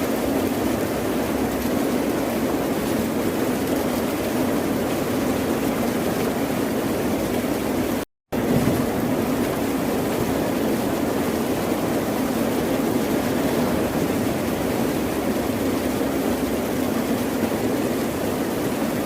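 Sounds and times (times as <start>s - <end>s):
ocean waves rushing: 0.0s - 19.0s.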